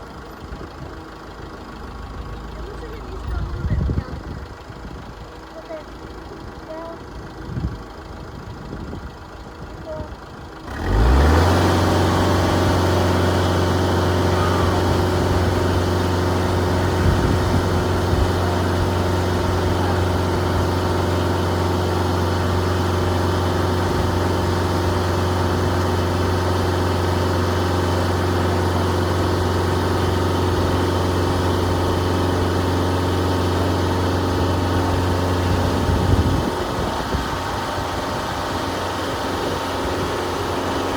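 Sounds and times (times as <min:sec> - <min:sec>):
engine starting and idling: 0:00.0 - 0:40.9.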